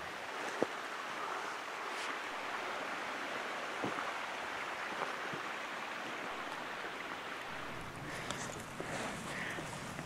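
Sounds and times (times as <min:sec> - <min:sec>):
flowing water rushing: 0:00.0 - 0:10.0.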